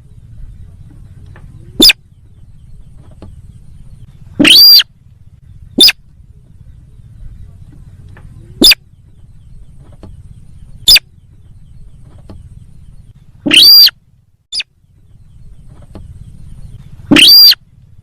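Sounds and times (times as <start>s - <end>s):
harsh distorted bird calls: 0.0s - 18.0s
low background hum: 0.0s - 18.0s.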